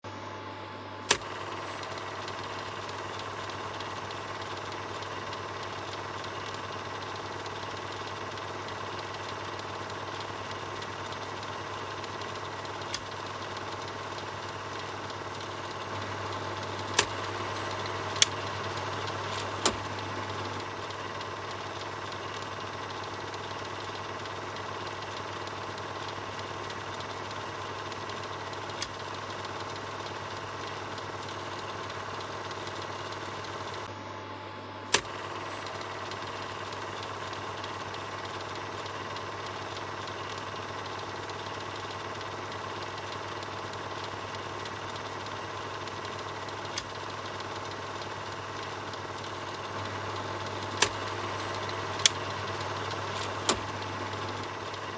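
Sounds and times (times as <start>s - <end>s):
film projector whirring: 0.0s - 54.9s
projector clicks: 1.0s - 33.9s, 34.9s - 54.9s.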